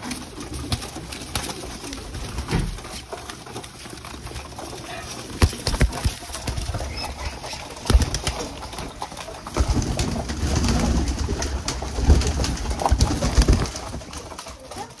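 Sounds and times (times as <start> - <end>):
pigeon wings flapping: 0.0 - 15.0
pigeons cooing: 0.0 - 15.0.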